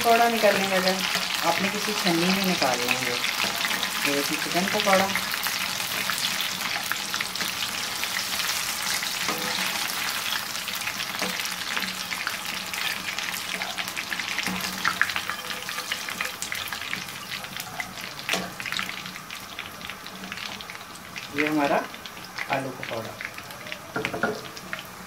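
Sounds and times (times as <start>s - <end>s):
deep-frying sizzling and crackling: 0.0s - 25.0s.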